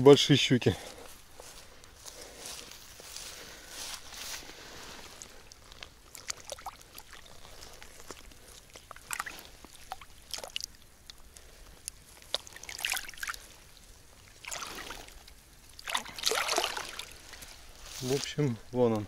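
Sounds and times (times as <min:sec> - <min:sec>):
lake water splashing: 0:00.8 - 0:18.8.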